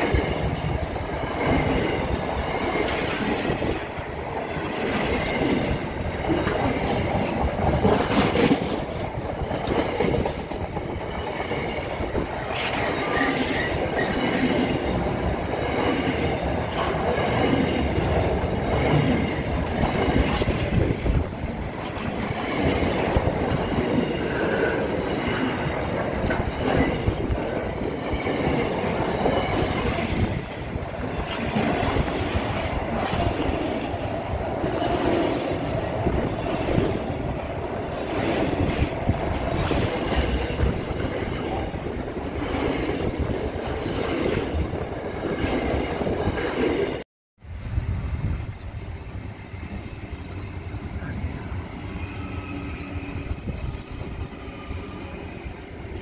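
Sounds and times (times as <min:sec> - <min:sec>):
train wheels clicking over rail joints: 0:00.0 - 0:46.8.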